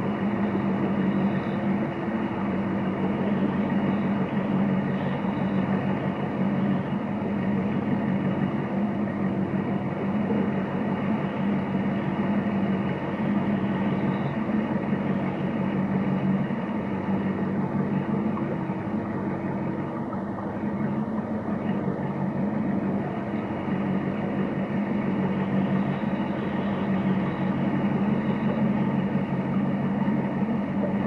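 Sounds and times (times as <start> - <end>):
boat engine running: 0.0 - 31.0
water rushing along hull: 0.0 - 31.0.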